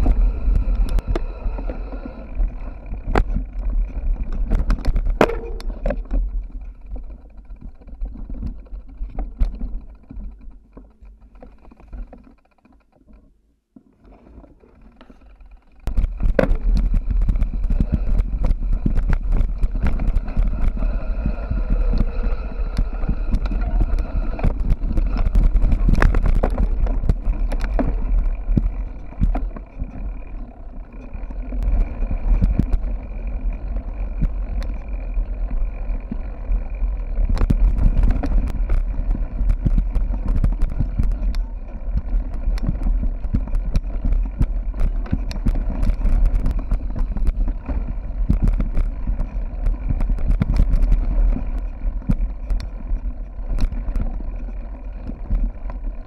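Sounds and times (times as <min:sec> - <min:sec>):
wind rumble on microphone: 0:00.0 - 0:10.6, 0:15.9 - 0:56.0
bike knocks and rattles: 0:00.0 - 0:56.0.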